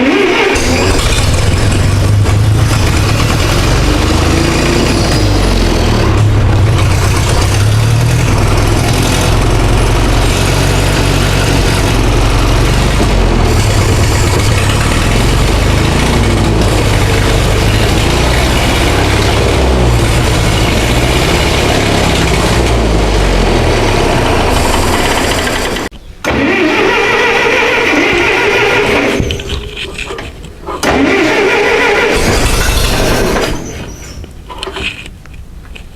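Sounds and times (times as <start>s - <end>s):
tractor engine running unevenly: 0.0s - 35.9s.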